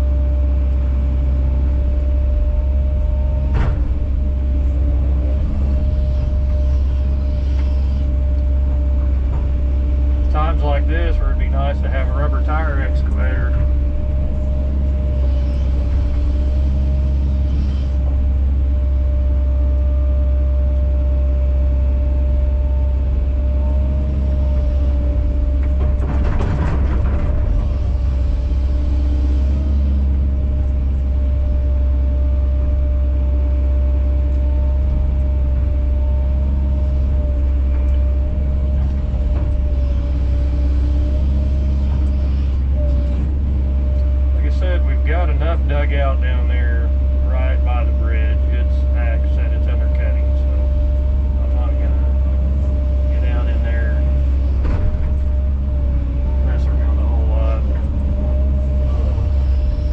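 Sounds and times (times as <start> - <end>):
excavator engine drone with whine: 0.0 - 59.9.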